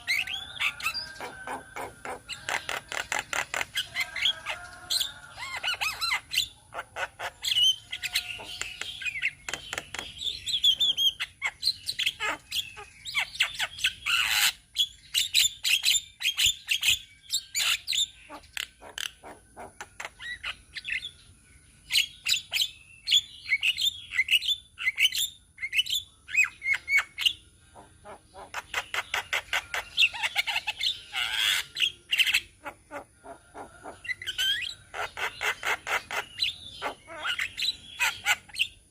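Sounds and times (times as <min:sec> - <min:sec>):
birds chattering and squawking: 0:00.0 - 0:38.9.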